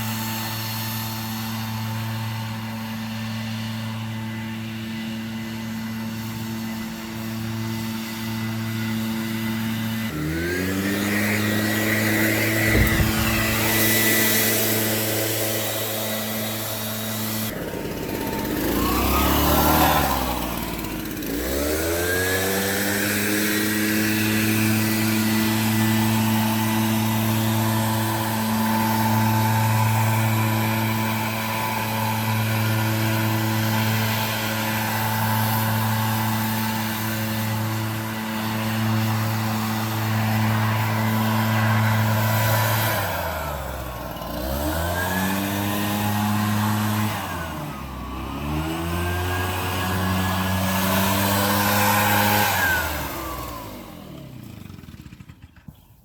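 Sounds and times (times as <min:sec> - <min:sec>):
leaf blower engine running: 0:00.0 - 0:56.0.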